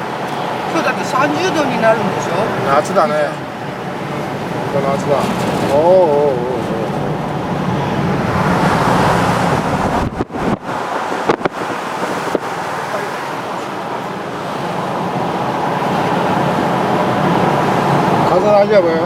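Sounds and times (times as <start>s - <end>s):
wind buffeting microphone: 0.0s - 18.3s
road noise inside car: 0.0s - 19.0s.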